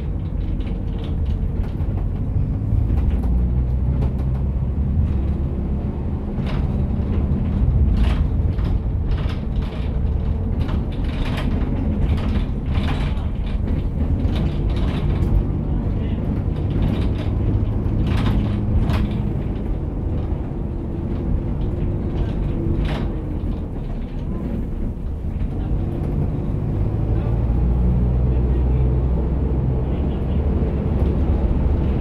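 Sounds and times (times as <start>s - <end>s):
bus engine and road rumble: 0.0s - 32.0s
rattles and creaks: 0.0s - 32.0s.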